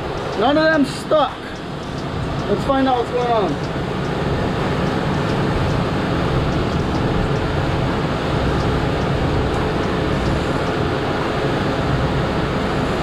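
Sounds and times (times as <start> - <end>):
outboard motors running: 0.0 - 13.0
rushing wind: 0.0 - 13.0.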